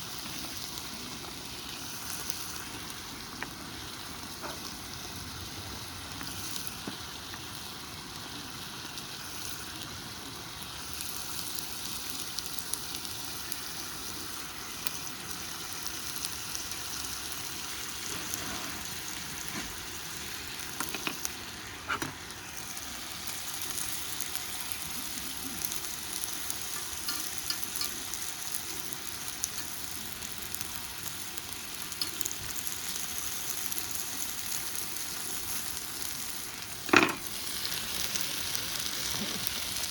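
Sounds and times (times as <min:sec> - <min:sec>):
meat and garlic sizzling in a pan: 0:00.0 - 0:39.9.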